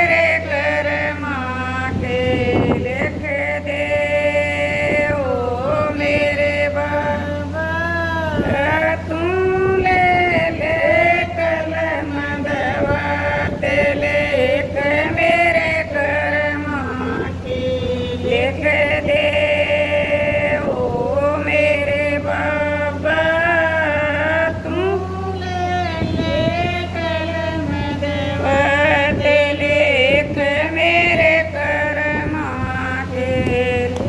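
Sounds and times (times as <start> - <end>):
steady low hum: 0.0 - 34.0
woman singing devotional song: 0.0 - 34.0.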